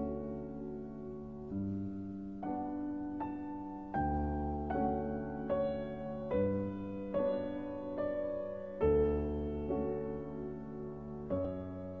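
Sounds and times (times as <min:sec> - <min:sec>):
piano chords: 0:00.0 - 0:12.0
slow soft background music: 0:00.0 - 0:12.0.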